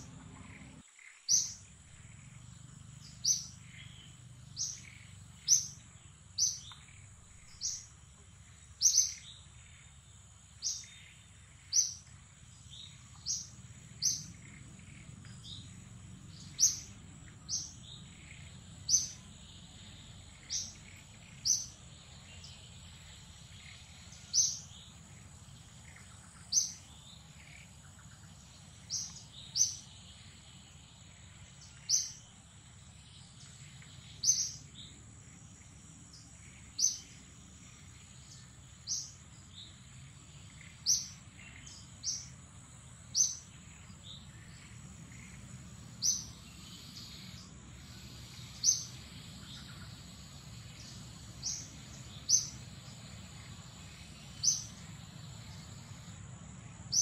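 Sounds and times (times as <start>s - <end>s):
bird chirping: 0.0s - 57.0s
insects humming: 0.0s - 57.0s.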